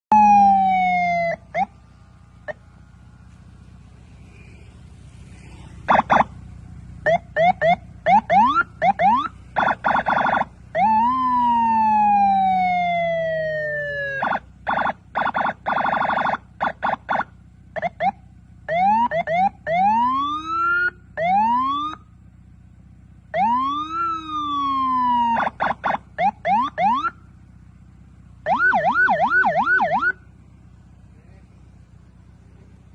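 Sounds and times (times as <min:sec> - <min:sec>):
electronic vehicle siren: 0:00.1 - 0:22.2, 0:23.2 - 0:27.6, 0:28.4 - 0:30.3.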